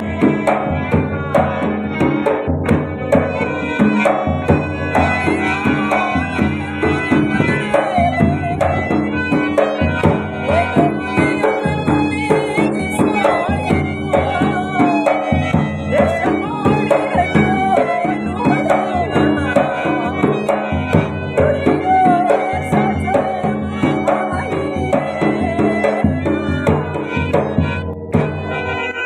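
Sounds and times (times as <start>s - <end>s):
hand drum strokes: 0.0s - 29.0s
wavering folk melody: 0.0s - 29.0s.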